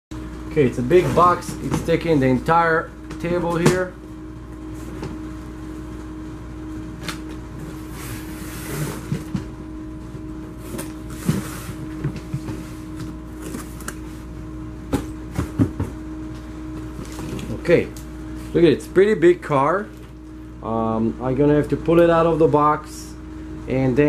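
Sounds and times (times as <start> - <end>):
steady hum: 0.1 - 24.0.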